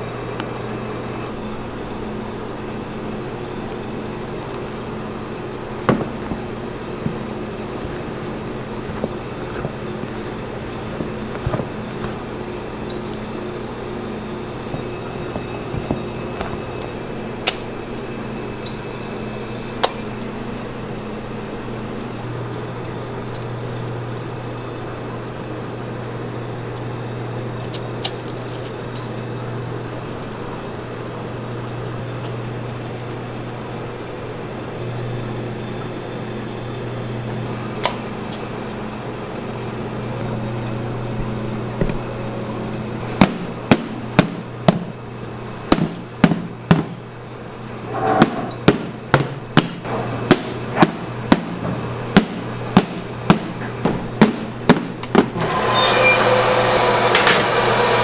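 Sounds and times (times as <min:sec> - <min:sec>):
kitchen machinery humming: 0:00.0 - 0:58.0.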